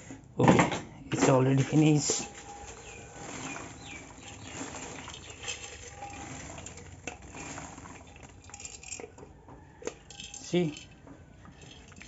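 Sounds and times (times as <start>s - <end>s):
metal cookware clinking: 1.2s - 12.0s.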